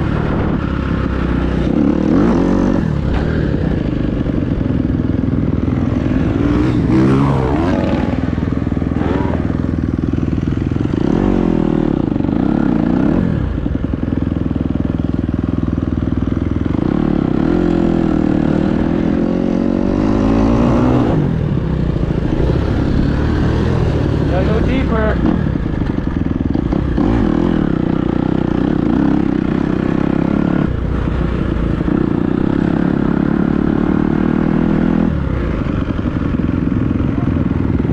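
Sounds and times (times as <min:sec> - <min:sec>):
dirt bike engine revving: 0:00.0 - 0:14.0, 0:16.6 - 0:37.9.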